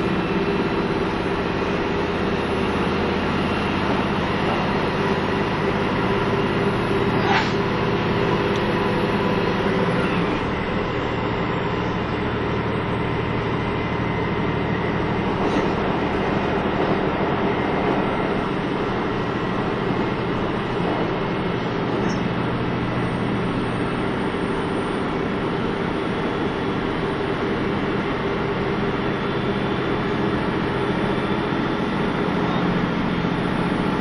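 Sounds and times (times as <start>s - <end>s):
diesel engine drone: 0.0s - 34.0s.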